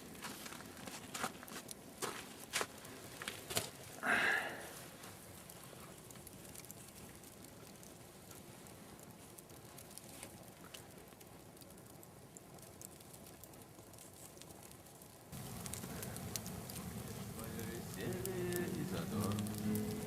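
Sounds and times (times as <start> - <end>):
campfire crackling and popping: 0.0 - 20.0
low fire hiss: 0.0 - 20.0.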